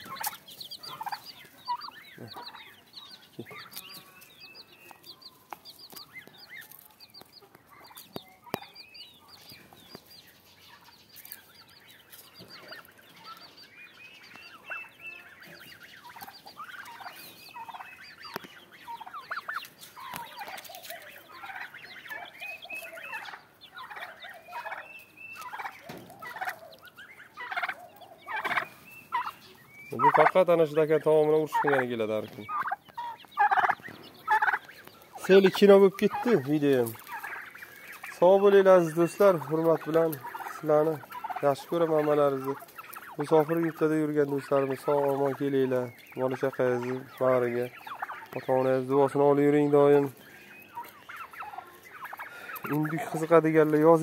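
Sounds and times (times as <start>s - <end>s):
chickens and turkeys calling: 0.0s - 54.0s
chicks peeping: 0.0s - 54.0s.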